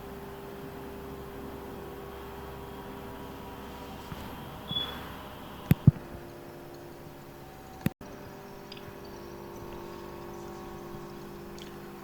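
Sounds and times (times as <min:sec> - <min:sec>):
low hiss: 0:00.0 - 0:12.0
steady electrical hum: 0:00.0 - 0:12.0.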